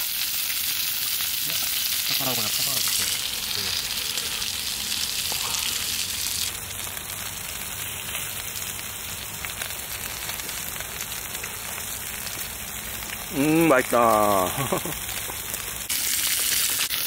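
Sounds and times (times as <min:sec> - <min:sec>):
meat sizzling in a pan: 0:00.0 - 0:17.0
faint crackles: 0:00.1 - 0:17.0.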